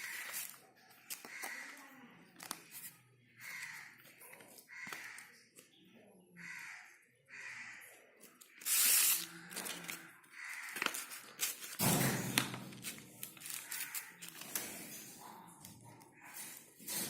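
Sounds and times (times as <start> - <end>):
paper and card rustling: 0.0 - 5.2, 8.2 - 17.0.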